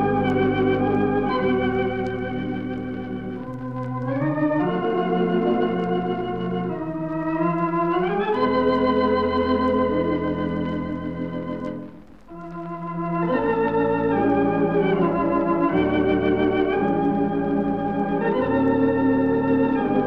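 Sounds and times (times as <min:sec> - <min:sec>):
pipe organ playing chords: 0:00.0 - 0:20.0.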